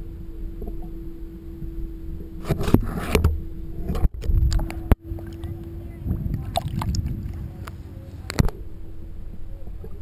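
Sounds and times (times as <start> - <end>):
underwater rumble and hum: 0.0 - 10.0.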